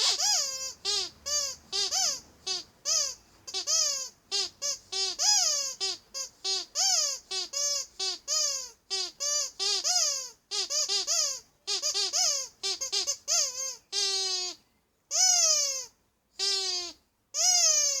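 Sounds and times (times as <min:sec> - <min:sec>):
rubber duck toy squeaking: 0:00.0 - 0:18.0.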